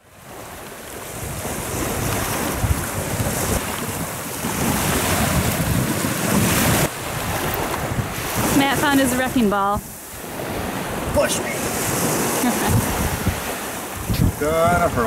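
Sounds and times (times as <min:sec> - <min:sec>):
small waves washing onto sand: 0:00.0 - 0:15.0
wind buffeting microphone: 0:00.1 - 0:15.0.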